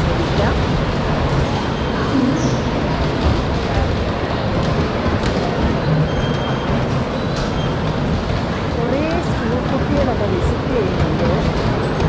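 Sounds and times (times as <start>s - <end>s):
bumper cars rumbling: 0.0s - 12.0s.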